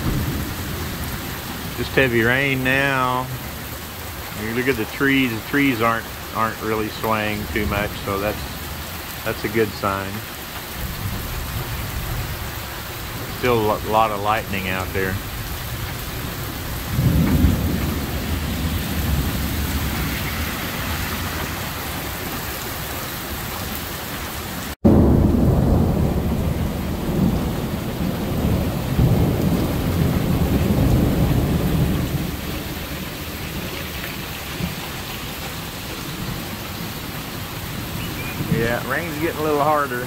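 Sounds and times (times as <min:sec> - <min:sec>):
thunder rumbling: 0:00.0 - 0:23.8, 0:24.6 - 0:40.0
heavy rain pouring: 0:00.0 - 0:40.0.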